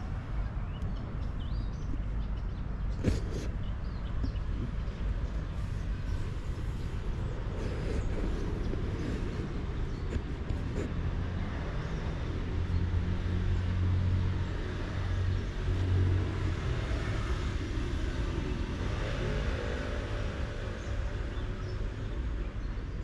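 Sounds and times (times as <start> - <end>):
traffic noise: 0.0 - 23.0
vehicle engine hum: 0.0 - 23.0.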